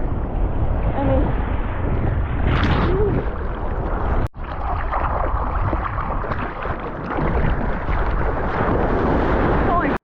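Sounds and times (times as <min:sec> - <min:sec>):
strong wind on microphone: 0:00.0 - 0:10.0
rough surf rushing: 0:00.7 - 0:10.0.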